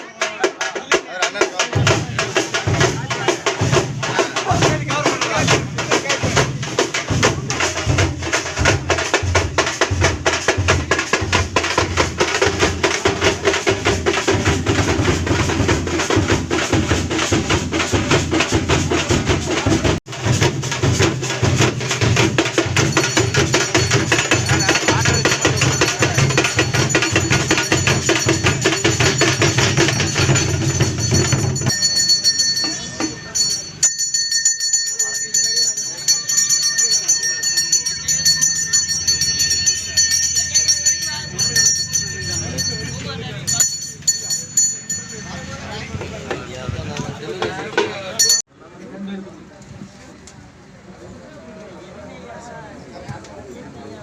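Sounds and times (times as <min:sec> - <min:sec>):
drums beaten in fast rhythm: 0:00.0 - 0:48.5.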